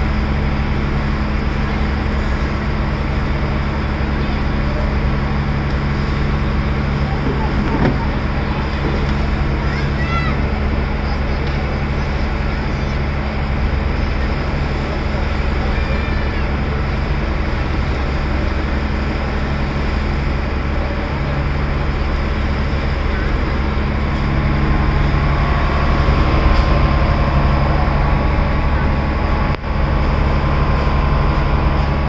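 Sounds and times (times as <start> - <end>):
boat engine droning: 0.0 - 32.0
water rushing: 0.0 - 32.0
wind: 0.0 - 32.0.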